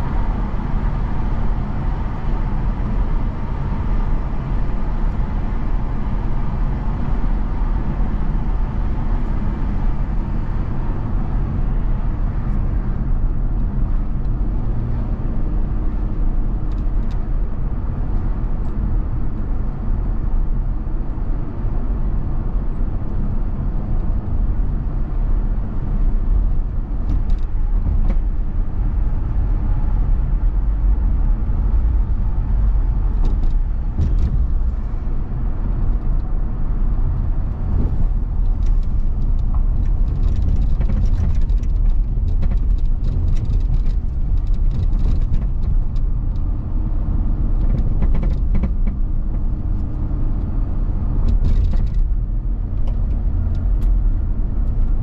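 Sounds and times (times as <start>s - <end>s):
vehicle driving at highway speed: 0.0s - 55.0s.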